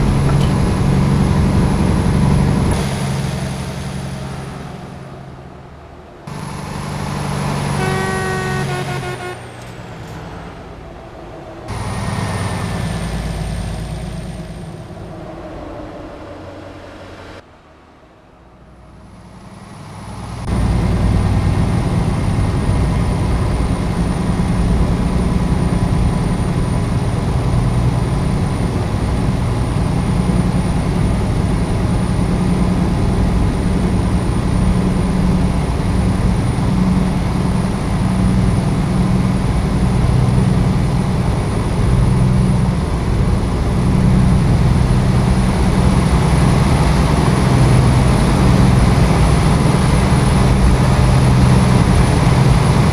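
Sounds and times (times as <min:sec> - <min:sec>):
truck diesel engine droning: 0:00.0 - 0:52.9.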